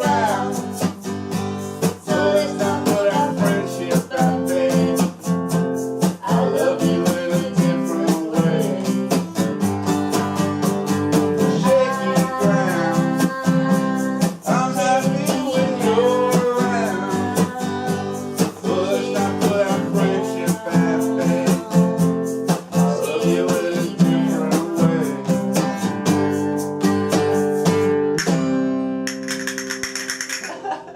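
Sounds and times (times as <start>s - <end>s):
acoustic guitar strummed: 0.0s - 30.6s.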